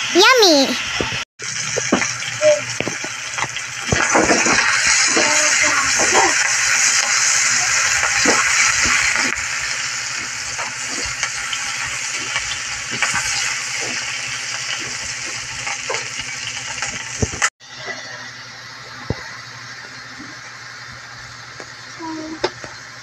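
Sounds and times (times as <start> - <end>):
aromatics sizzling in oil: 1.4 - 23.0.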